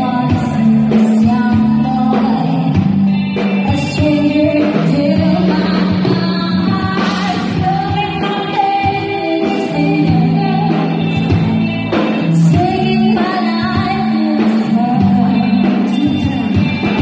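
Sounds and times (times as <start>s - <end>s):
live rock band playing: 0.0s - 17.0s
woman singing: 0.0s - 17.0s.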